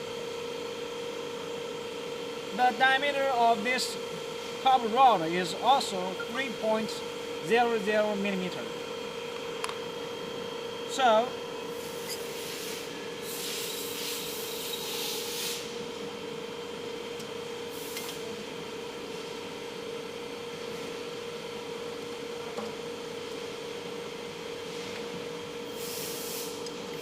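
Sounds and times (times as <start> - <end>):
steady electrical hum: 0.0 - 27.0.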